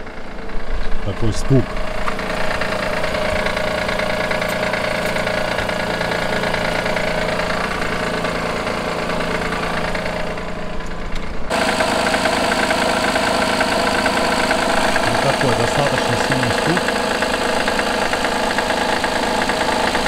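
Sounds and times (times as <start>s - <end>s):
engine idling with rapid knock: 0.0s - 20.0s.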